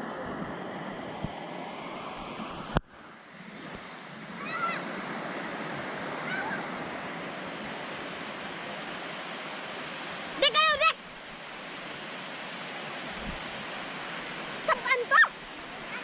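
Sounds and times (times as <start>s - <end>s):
waterfall rushing into pool: 0.0s - 16.0s.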